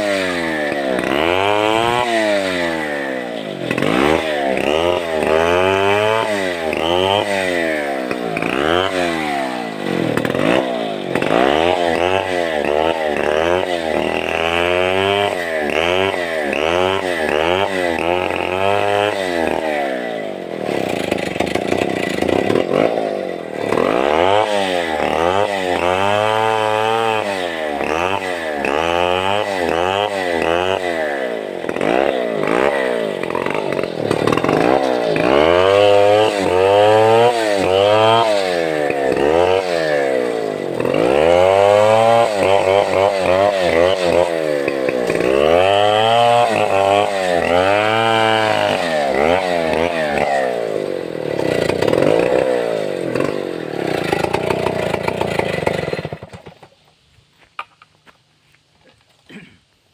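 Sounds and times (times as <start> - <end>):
chainsaw cutting log: 0.0 - 57.9.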